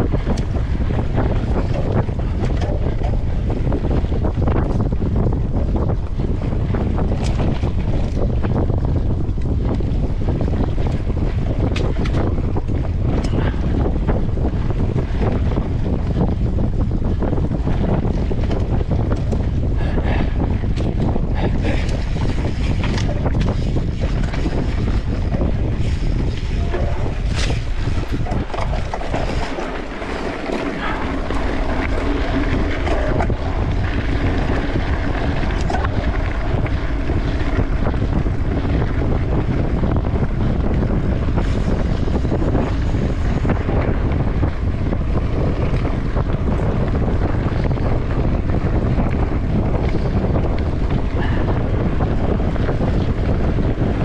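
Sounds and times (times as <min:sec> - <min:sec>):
bike knocks and rattles: 0:00.0 - 0:54.0
wind rush on microphone: 0:00.0 - 0:54.0.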